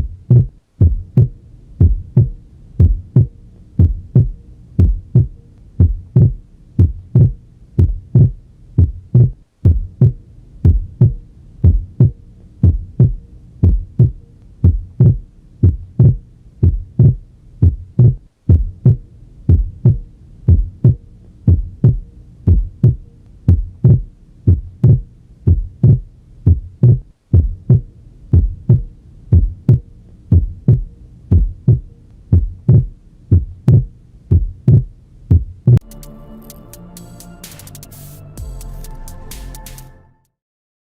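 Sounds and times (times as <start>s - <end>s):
heartbeat through stethoscope: 0.0s - 35.8s.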